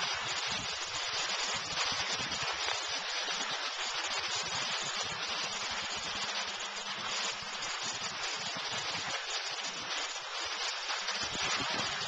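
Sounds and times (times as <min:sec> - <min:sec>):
skis hissing over snow: 0:00.0 - 0:12.0
wind rumbling on microphone: 0:00.0 - 0:12.0.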